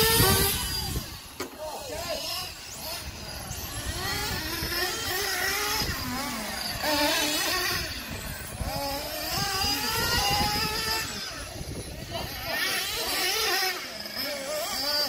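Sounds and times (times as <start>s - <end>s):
small engines of radio-controlled cars: 0.0s - 15.0s.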